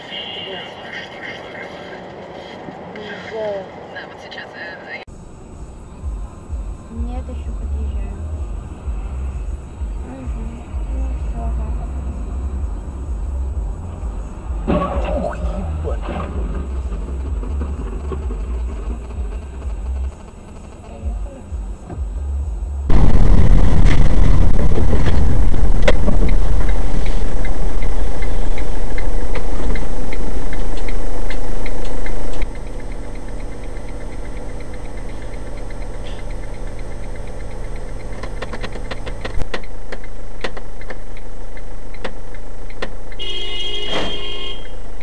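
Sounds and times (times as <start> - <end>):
road noise: 0.0 - 45.0
vehicle engine: 0.0 - 45.0.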